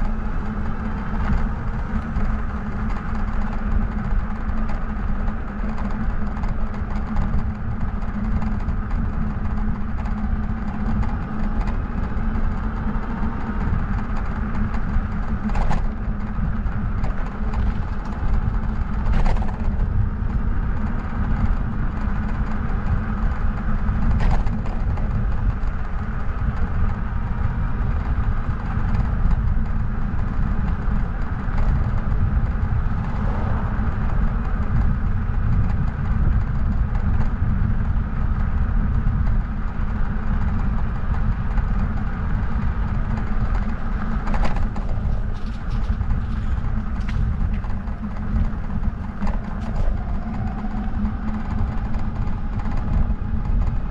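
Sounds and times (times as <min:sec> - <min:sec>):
bike rolling noise: 0:00.0 - 0:53.9
wind buffeting microphone: 0:00.0 - 0:53.9.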